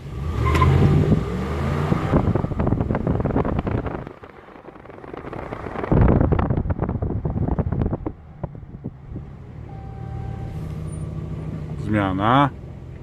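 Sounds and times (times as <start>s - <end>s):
pickup engine revving: 0.0s - 13.0s.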